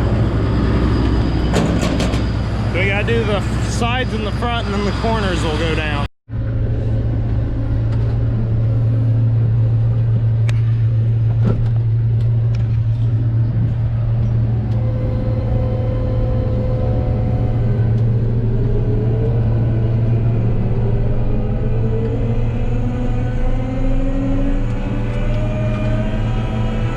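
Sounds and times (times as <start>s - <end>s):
diesel engine humming: 0.0s - 26.9s.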